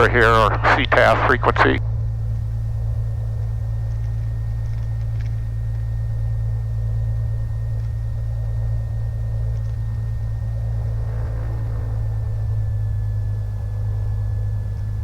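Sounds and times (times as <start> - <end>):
aircraft engine and propeller droning: 0.0 - 15.0
faint high whine: 0.0 - 15.0.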